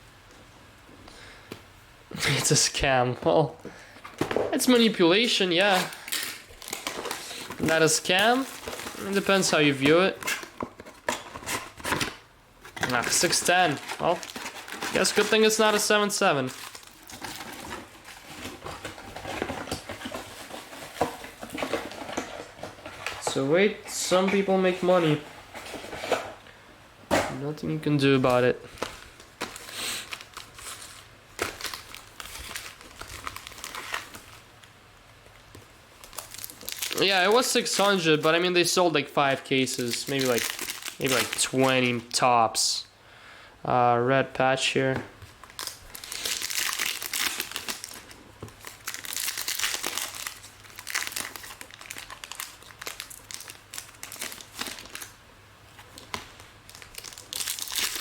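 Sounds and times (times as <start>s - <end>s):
plastic packaging rustling: 3.2s - 26.4s, 27.8s - 42.6s, 44.8s - 58.0s.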